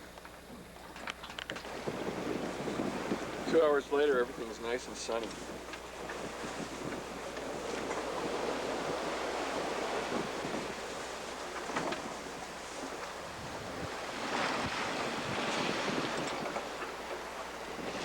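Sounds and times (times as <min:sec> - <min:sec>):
sea water rushing past boat: 0:00.6 - 0:18.0
wind buffeting microphone: 0:01.5 - 0:18.0.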